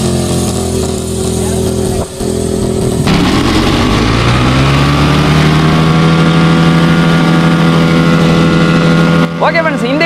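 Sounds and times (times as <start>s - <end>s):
loud motorcycle engine revving: 0.0s - 9.8s.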